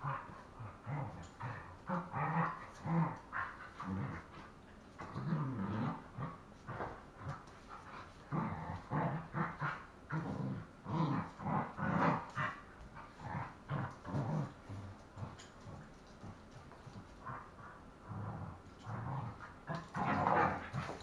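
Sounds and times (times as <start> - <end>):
dogs growling while play-fighting: 0.0 - 21.0.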